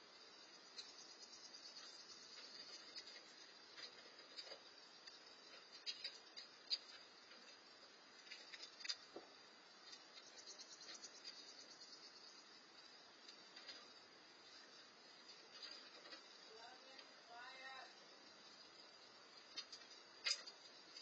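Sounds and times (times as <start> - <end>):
high-pitched insect chirring: 0.0 - 9.1, 9.7 - 15.4, 16.2 - 21.0.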